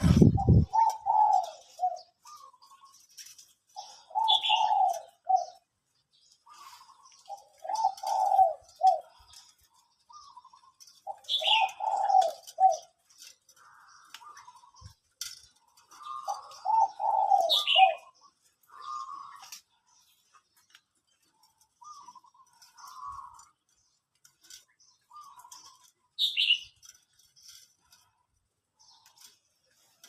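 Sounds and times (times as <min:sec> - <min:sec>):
dove cooing: 0:00.0 - 0:20.1, 0:21.3 - 0:23.8, 0:24.4 - 0:26.8.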